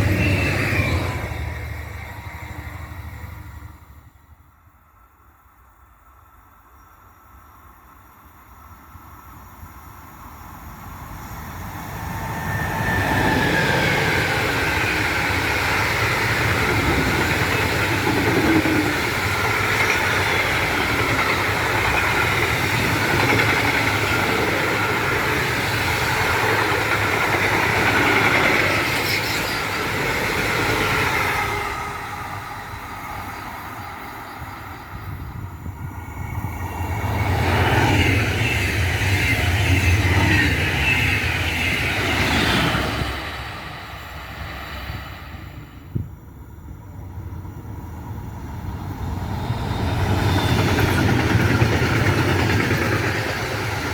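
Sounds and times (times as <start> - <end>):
freight train passing: 0.0 - 53.9
second train approaching: 0.0 - 53.9.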